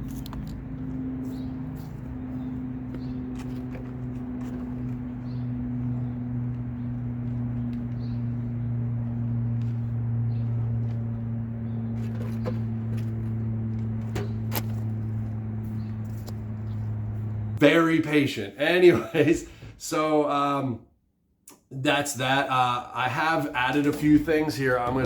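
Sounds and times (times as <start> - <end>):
low appliance hum: 0.0 - 20.3.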